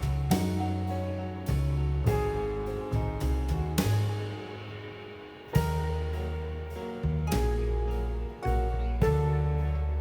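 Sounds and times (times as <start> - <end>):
instrumental music with bass line: 0.0 - 10.0.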